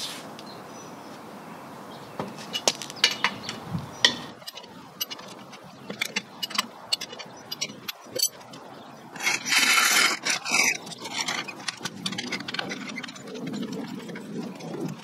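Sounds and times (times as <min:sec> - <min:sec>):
lug wrench clinking on nuts: 0:02.4 - 0:14.7.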